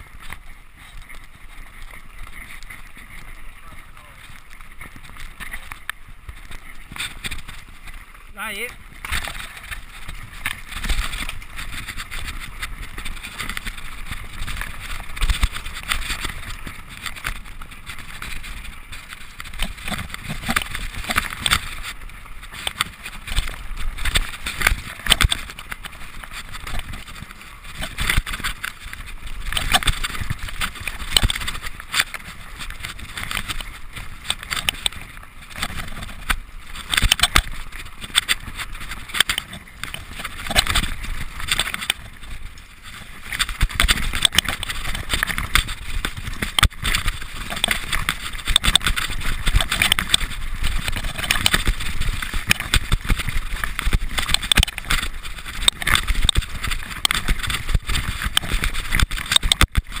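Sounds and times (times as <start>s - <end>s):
bike rattling over rocks: 0.0s - 60.0s.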